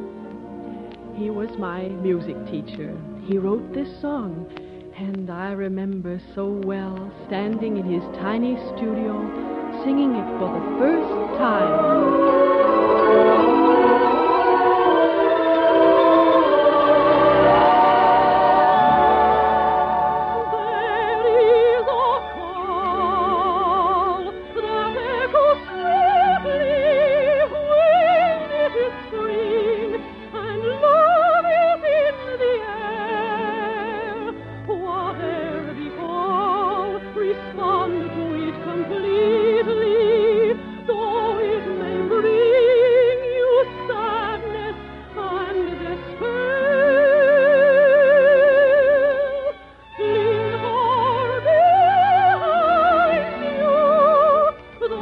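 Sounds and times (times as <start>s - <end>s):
instrumental accompaniment: 0.0s - 55.0s
operatic soprano singing: 1.1s - 55.0s.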